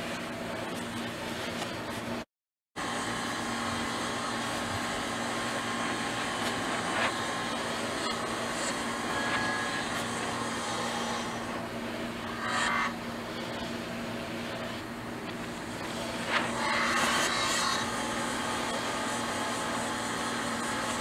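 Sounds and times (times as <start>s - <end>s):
mechanical hum and hiss: 0.0s - 2.2s, 2.8s - 21.0s.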